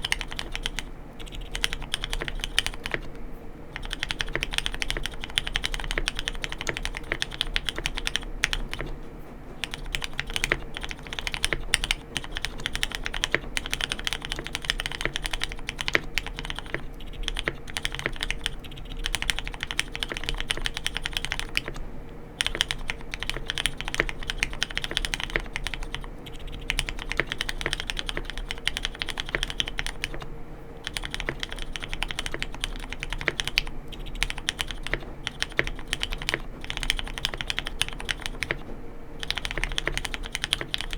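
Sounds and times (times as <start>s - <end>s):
fast typing on mechanical keyboard: 0.0s - 3.1s, 3.7s - 40.9s.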